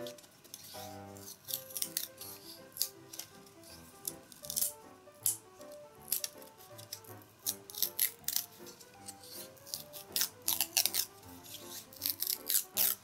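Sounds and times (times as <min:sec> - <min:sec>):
bamboo splitting crackle: 0:00.0 - 0:13.0
gentle background music: 0:00.0 - 0:13.0.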